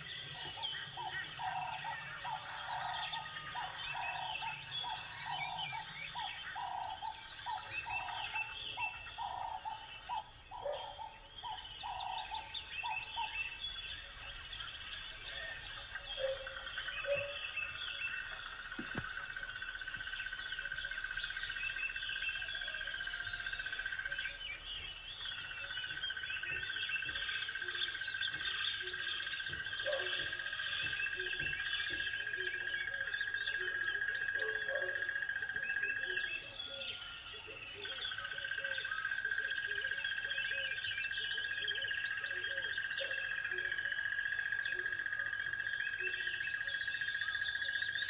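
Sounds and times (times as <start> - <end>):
bird chirps: 0.0 - 48.0.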